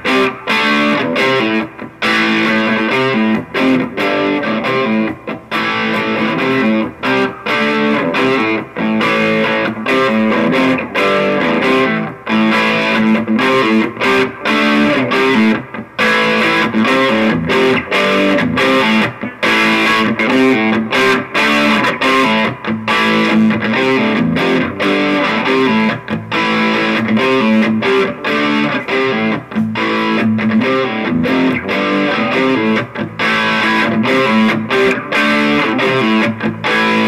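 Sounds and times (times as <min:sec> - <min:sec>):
distorted electric guitar riffs: 0:00.0 - 0:37.0.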